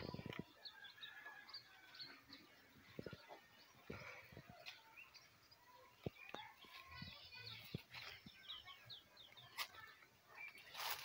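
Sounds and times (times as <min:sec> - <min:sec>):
faint birdsong chirps: 0:00.0 - 0:11.0.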